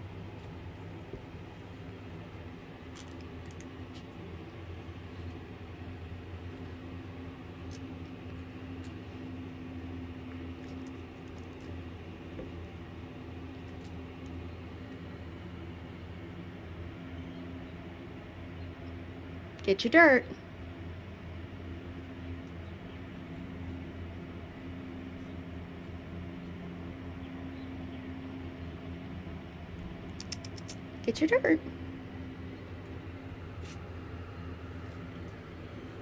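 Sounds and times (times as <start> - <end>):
low mechanical hum: 0.0 - 36.0.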